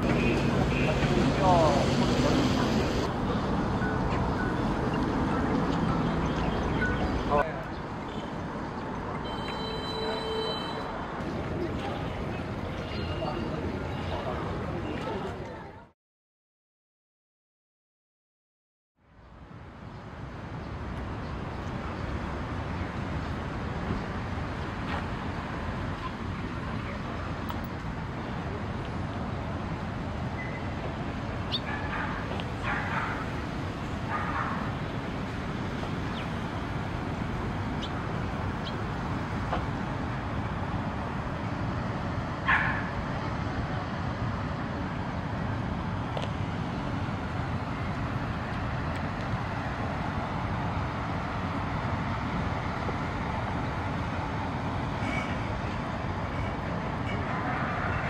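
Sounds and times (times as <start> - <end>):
distant traffic rumble: 0.0 - 15.9, 19.1 - 58.0.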